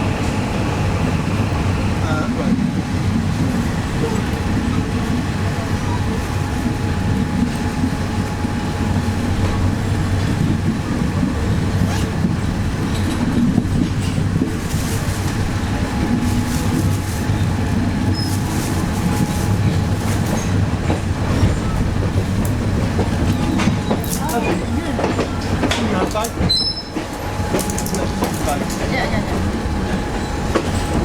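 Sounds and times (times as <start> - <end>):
diesel train rumble and hum: 0.0 - 31.0.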